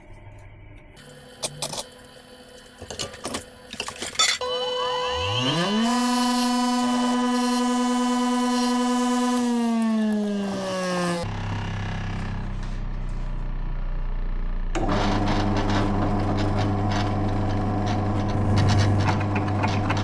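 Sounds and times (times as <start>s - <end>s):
drill press motor whine: 0.1s - 12.7s, 14.8s - 20.0s.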